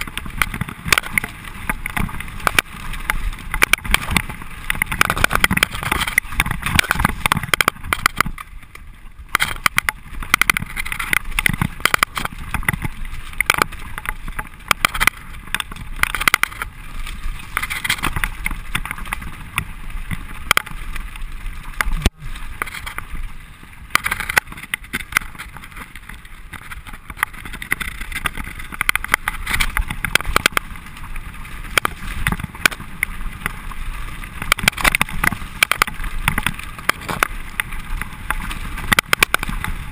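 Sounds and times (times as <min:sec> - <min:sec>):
wind rush on microphone: 0:00.0 - 0:20.8, 0:21.8 - 0:39.9
bike rattling and knocking: 0:00.0 - 0:39.9
bike tyres crunching over stones: 0:00.0 - 0:39.9.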